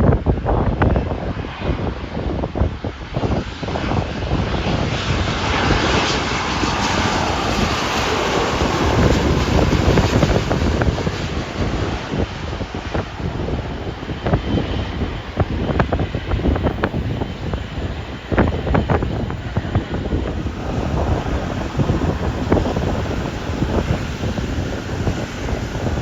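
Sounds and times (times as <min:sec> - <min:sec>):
jet airliner engine roar: 0:00.0 - 0:26.0
wind buffeting microphone: 0:00.0 - 0:26.0
jet engine whine falling: 0:01.2 - 0:26.0.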